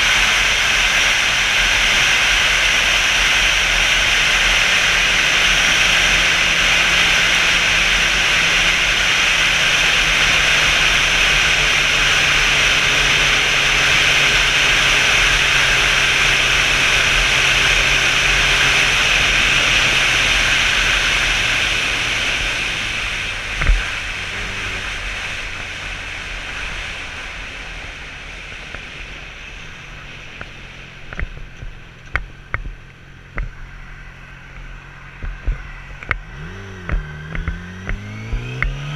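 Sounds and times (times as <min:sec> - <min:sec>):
motorcycle engine hum: 0:00.0 - 0:38.9.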